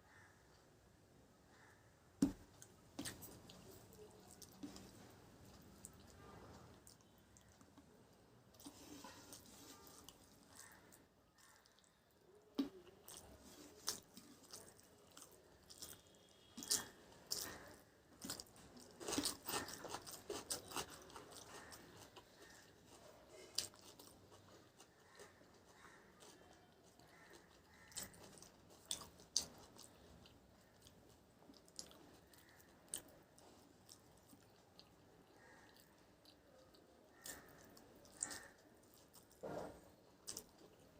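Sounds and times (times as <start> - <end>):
person chewing food: 2.2 - 40.9.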